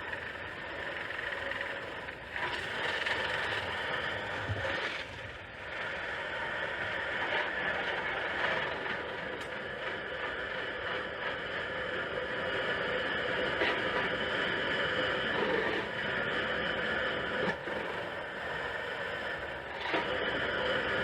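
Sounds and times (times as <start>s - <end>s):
air conditioner unit whirring: 0.0s - 21.0s.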